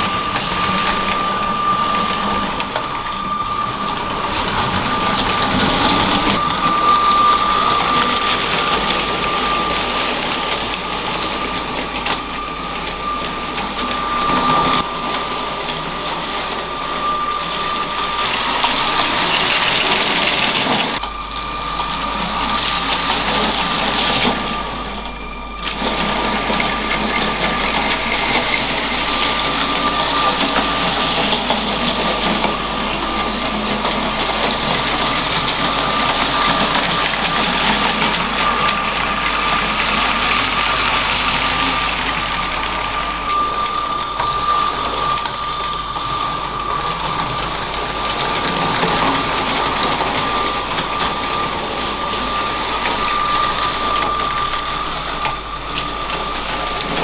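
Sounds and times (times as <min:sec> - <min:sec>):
toy train motor whine: 0:00.0 - 0:57.0
wheels rattling on track: 0:00.0 - 0:57.0.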